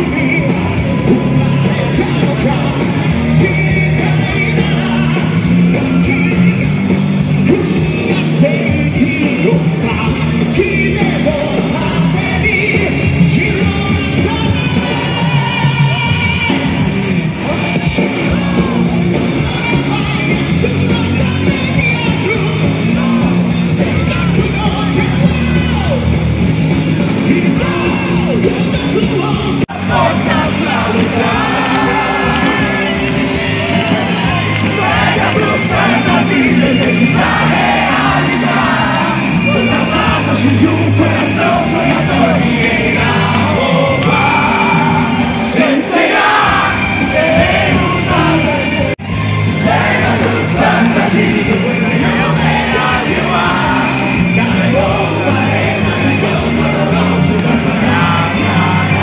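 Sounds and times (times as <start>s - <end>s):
crowd yelling and cheering: 0.0s - 59.0s
live band with lead singer: 0.0s - 59.0s.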